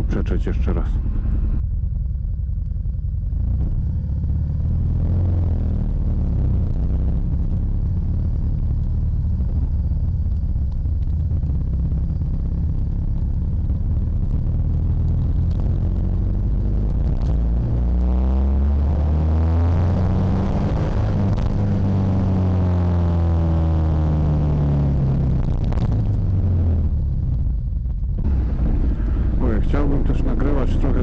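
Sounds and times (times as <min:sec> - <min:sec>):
motorcycle engine drone: 0:00.0 - 0:31.0
wind rumble: 0:00.0 - 0:31.0.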